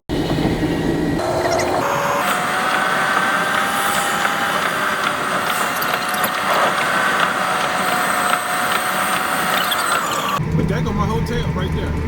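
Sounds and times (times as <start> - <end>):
steady whine: 0.1 - 12.0
truck engine and road noise: 0.1 - 12.0.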